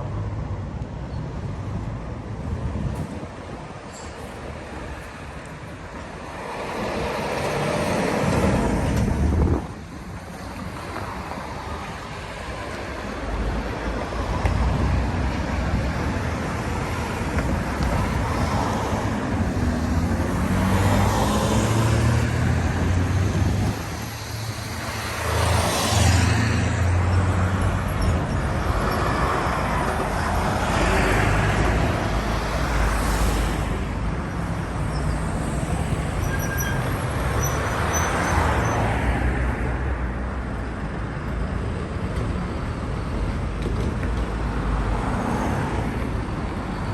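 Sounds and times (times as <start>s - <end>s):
cars passing: 0.0s - 46.9s.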